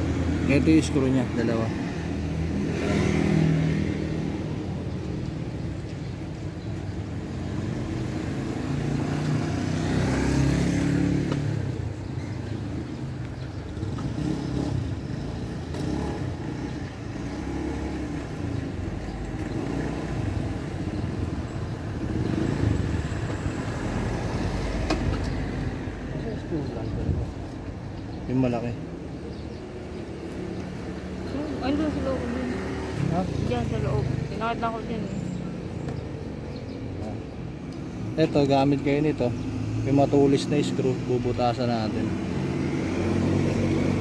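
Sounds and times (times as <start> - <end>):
vehicle engine rumble: 0.0 - 44.0.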